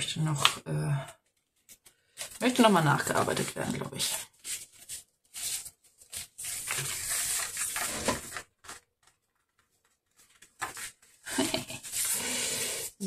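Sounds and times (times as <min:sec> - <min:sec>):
paper rustling and rubbing: 0:01.6 - 0:12.9.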